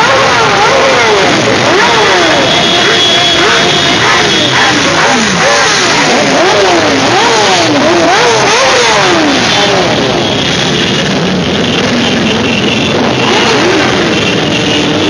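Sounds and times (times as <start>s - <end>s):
many motorcycle engines revving: 0.0s - 15.0s.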